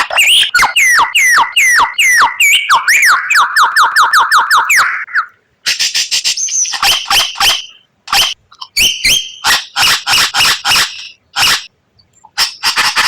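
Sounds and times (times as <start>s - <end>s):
songbird harsh call notes: 0.0s - 11.7s.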